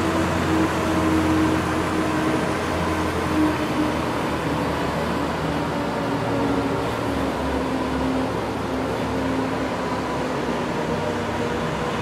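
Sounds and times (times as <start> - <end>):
ice resurfacer running: 0.0 - 12.0.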